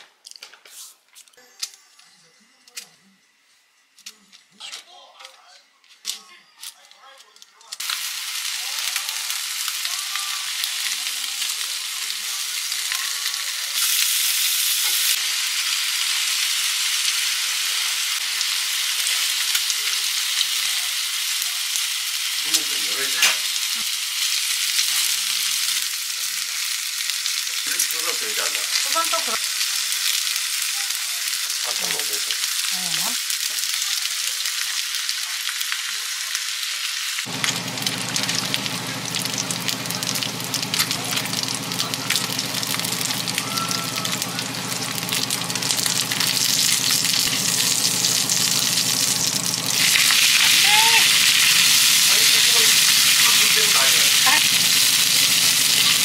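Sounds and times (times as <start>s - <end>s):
pork sizzling in grill pan: 7.7s - 56.0s.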